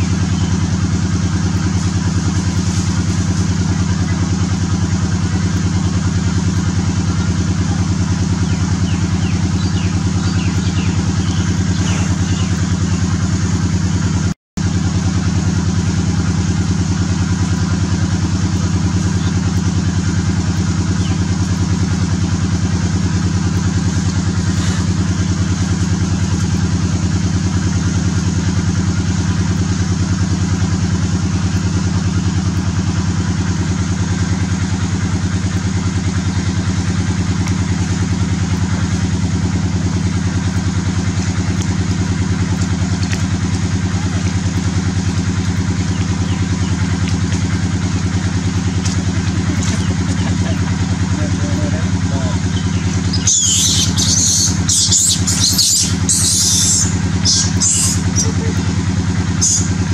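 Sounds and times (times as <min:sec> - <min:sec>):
small engine idling: 0:00.0 - 0:59.9.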